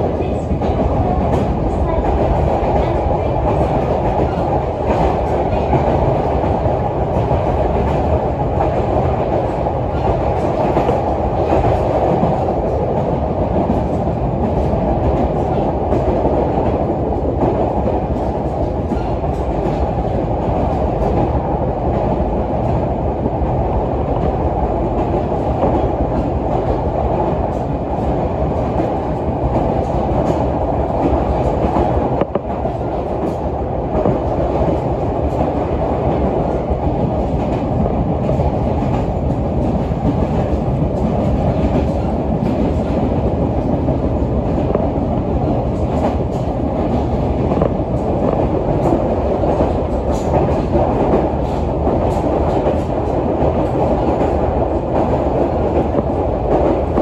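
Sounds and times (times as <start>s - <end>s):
faint clicks from rails: 0.0s - 57.0s
train wheels and motors rumbling: 0.0s - 57.0s.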